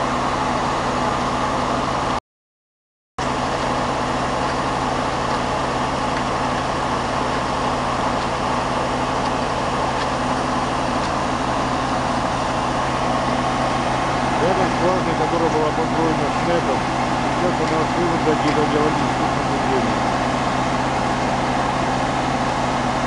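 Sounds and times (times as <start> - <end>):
drilling rig engine running: 0.0 - 2.2, 3.2 - 23.0.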